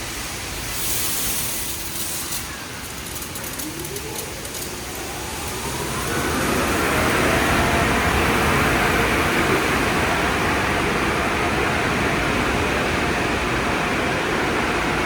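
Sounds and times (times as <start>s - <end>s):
car wash water spray: 0.0s - 13.0s
car wash machinery: 0.0s - 15.0s.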